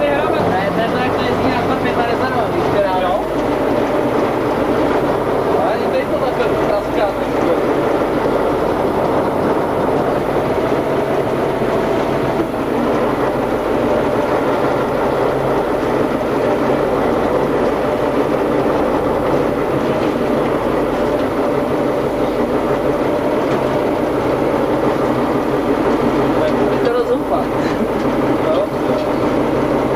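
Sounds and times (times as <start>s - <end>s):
truck engine running inside cab: 0.0s - 29.9s.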